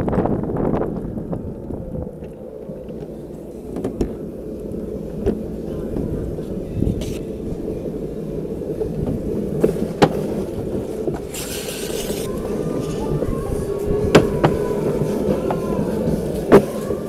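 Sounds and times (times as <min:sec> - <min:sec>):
wheels rolling over concrete: 0:00.0 - 0:17.0
wheels clicking over joints: 0:00.1 - 0:17.0.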